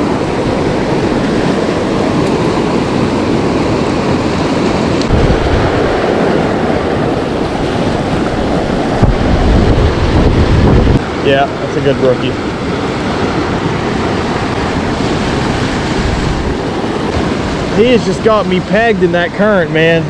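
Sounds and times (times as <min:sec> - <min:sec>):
wind buffeting microphone: 0:00.0 - 0:19.4
creek water rushing: 0:00.0 - 0:20.0.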